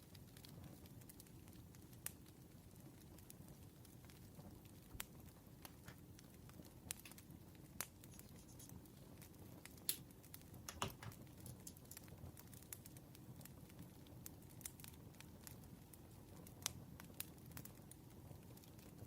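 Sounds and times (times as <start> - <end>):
campfire crackles and pops: 0.0 - 19.0.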